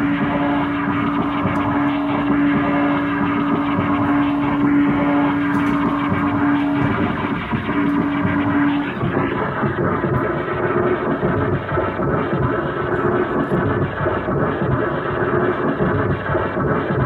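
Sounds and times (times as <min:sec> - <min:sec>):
loud steady low tone: 0:00.0 - 0:16.6
grinding distorted noise: 0:00.0 - 0:17.0.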